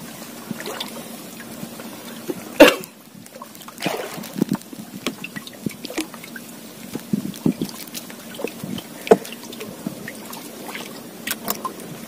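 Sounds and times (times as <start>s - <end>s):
water lapping against a hull: 0.0s - 12.0s
small splashes and knocks: 0.5s - 12.0s.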